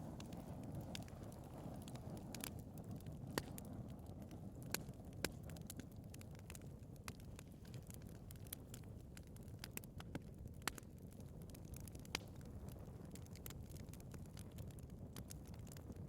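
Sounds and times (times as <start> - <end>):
fire crackles and pops: 0.0 - 16.0
fire rumbling in fireplace: 0.0 - 16.0.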